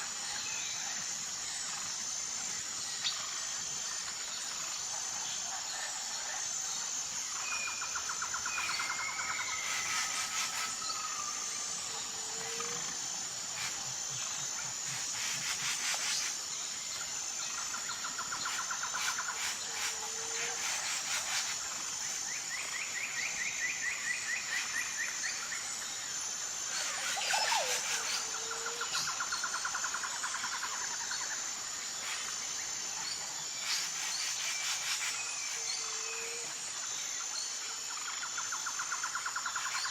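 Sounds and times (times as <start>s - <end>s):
high pulsing insect chorus: 0.0s - 39.9s.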